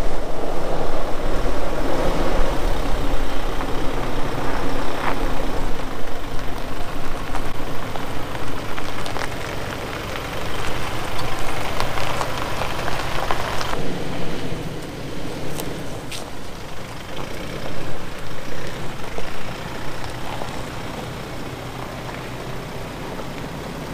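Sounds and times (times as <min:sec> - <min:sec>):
diesel engine running at low speed: 0:00.0 - 0:23.9
dirt and stones crunching under tyres: 0:00.0 - 0:23.9.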